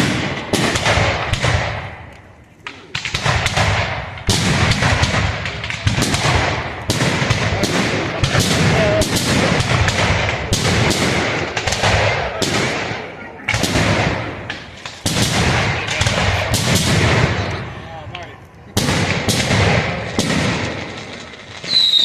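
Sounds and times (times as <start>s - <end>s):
fireworks bangs with echo: 0.0s - 22.0s.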